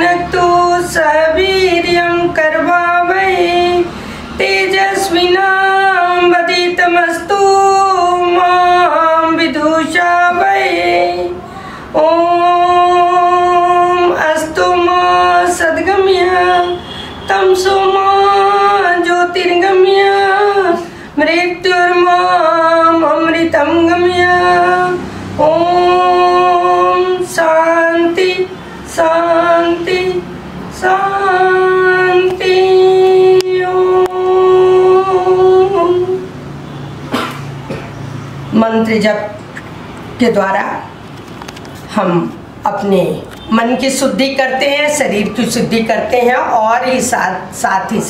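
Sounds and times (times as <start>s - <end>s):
woman chanting: 0.0s - 36.4s, 38.5s - 39.5s, 40.2s - 41.0s, 41.9s - 48.0s.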